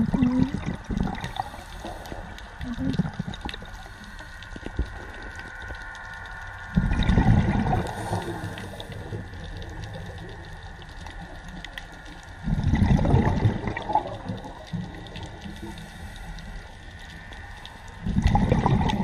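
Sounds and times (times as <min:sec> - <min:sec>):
rush of underwater bubbles: 0:00.0 - 0:05.9, 0:06.6 - 0:19.0
underwater crackle: 0:00.0 - 0:19.0.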